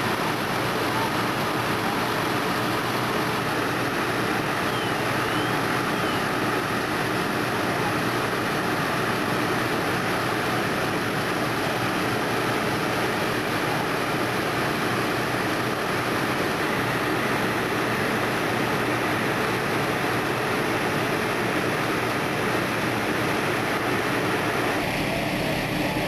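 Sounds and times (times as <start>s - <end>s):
motors droning: 0.0s - 19.0s, 23.5s - 26.0s.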